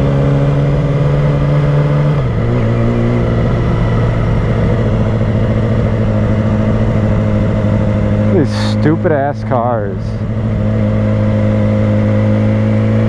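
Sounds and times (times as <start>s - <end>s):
motorcycle engine at low revs: 0.0s - 13.0s
wind and road noise: 0.0s - 13.0s.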